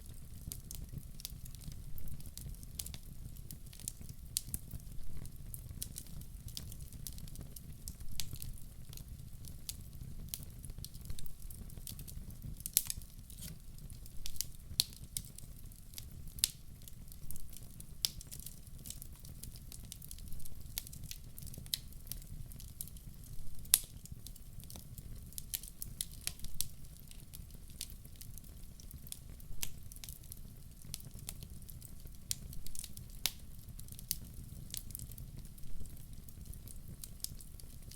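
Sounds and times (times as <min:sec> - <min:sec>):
fire crackling in a fireplace: 0:00.0 - 0:37.9.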